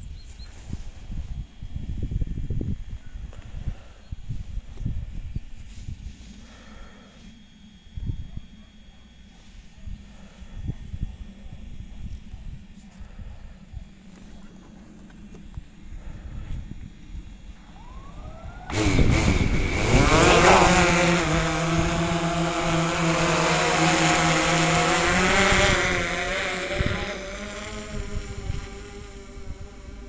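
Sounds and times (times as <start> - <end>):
drone propellers buzzing: 0.5 - 30.0.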